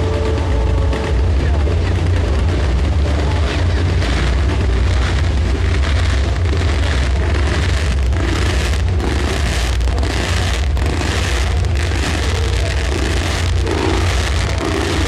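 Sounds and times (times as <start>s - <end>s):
firecrackers crackling: 0.0s - 15.0s
strong low rumble: 0.0s - 15.0s.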